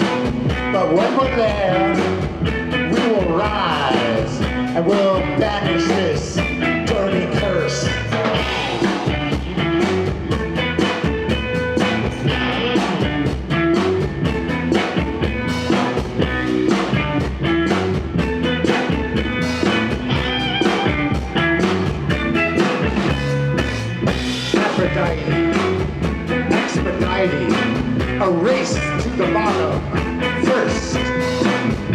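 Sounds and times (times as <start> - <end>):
bass guitar: 0.0 - 31.9
drum kit beat: 0.0 - 31.9
electric guitar: 0.0 - 31.9.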